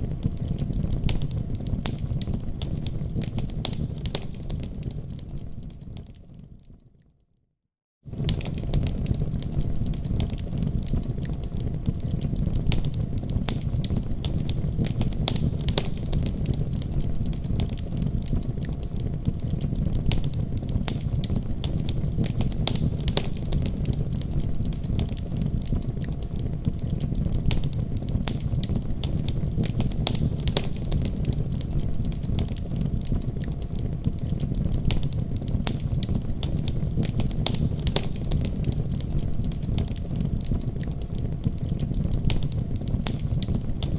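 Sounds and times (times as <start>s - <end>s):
fireplace fire rumbling: 0.0s - 6.8s, 8.1s - 43.9s
fire crackles and pops: 0.0s - 7.2s, 8.1s - 43.9s.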